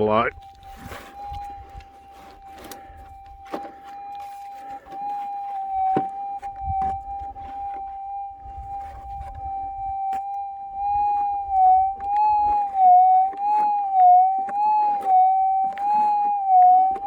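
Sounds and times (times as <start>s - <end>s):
metal detector warbling tone: 0.0s - 17.0s.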